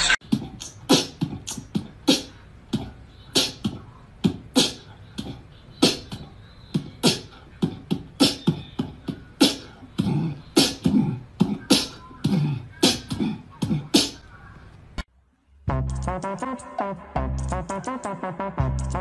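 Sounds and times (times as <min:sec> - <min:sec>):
beatboxing: 0:00.0 - 0:14.3, 0:15.7 - 0:19.0.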